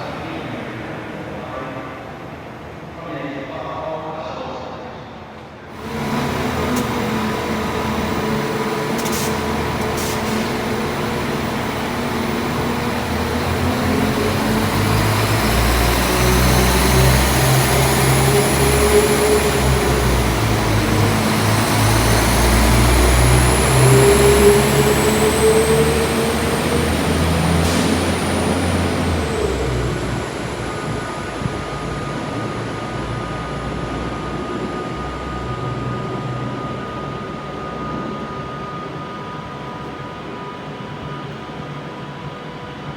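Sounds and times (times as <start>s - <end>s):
train engine rumble: 5.7s - 42.9s
train whine rising in pitch: 5.7s - 42.9s.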